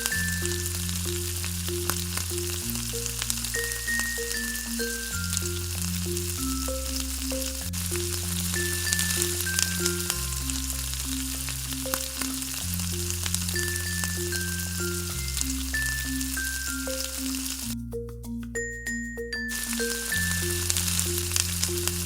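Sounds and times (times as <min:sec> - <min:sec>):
food frying in hot oil: 0:00.0 - 0:17.8
background music: 0:00.0 - 0:22.0.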